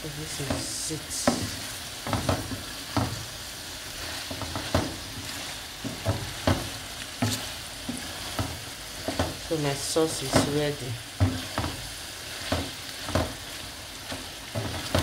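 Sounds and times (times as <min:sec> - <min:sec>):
sauce sizzling in a frying pan: 0:00.0 - 0:15.0
spatula scraping a pan: 0:00.2 - 0:15.0.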